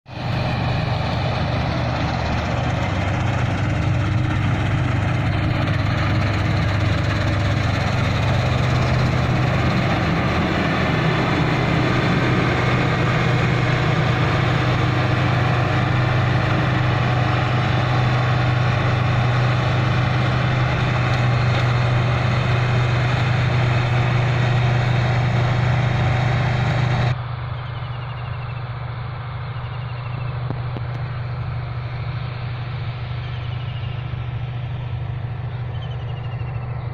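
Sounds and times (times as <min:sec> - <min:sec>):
combine harvester running: 0:00.1 - 0:36.9.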